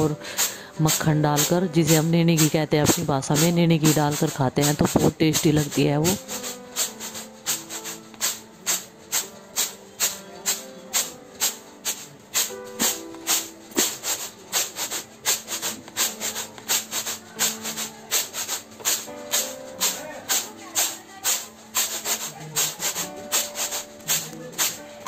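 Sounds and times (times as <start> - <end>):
grains rattling in winnowing basket: 0.0 - 25.0
soft background music: 0.0 - 25.0.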